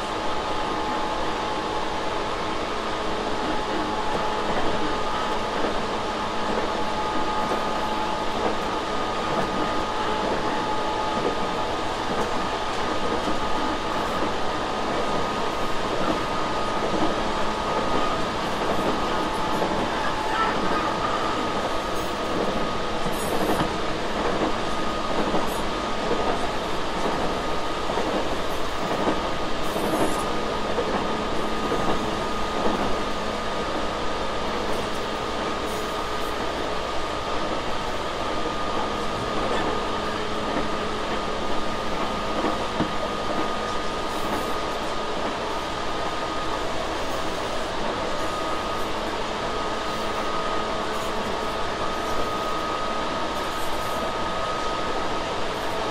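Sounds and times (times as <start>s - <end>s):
train wheel-on-rail noise: 0.0s - 55.9s.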